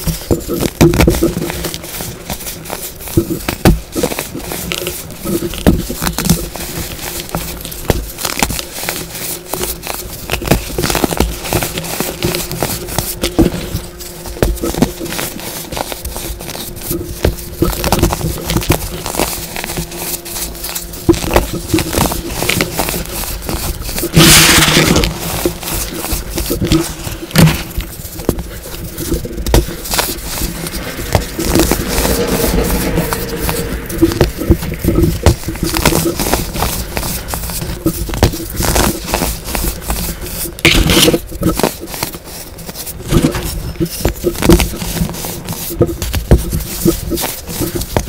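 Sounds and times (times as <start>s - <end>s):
baking soda crunching by hand: 0.0s - 48.0s.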